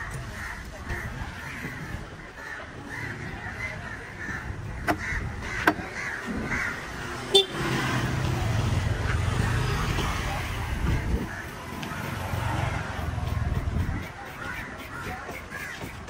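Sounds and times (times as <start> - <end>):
market voices: 0.0 - 16.0.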